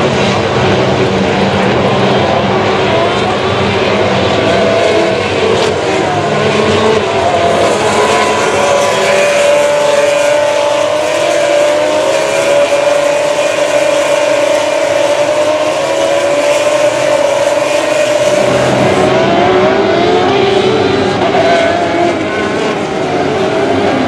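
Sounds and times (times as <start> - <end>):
race car engine at high revs: 0.0 - 24.0.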